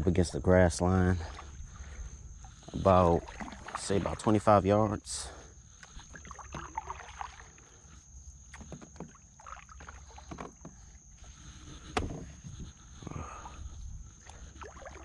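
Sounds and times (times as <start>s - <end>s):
paddle splashes and drips: 1.2s - 4.5s, 5.6s - 15.0s.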